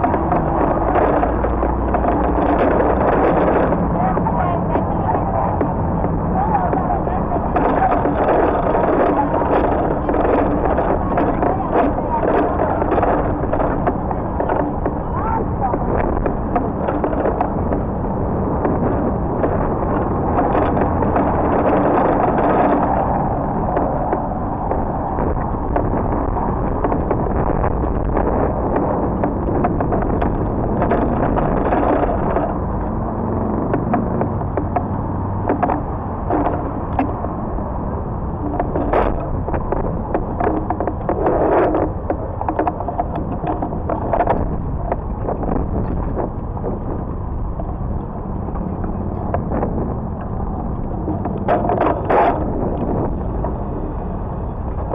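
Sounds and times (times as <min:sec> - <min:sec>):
bicycle tyres rumbling on pavement: 0:00.0 - 0:54.9
wind rushing over microphone: 0:00.0 - 0:54.9.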